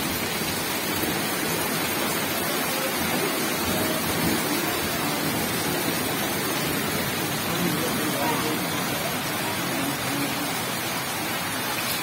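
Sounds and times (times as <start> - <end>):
heavy rain on a paved road: 0.0 - 12.0.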